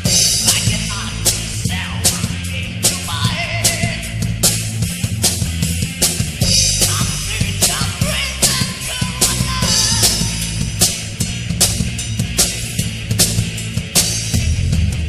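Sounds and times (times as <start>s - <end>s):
heavy metal band playing: 0.0s - 15.0s.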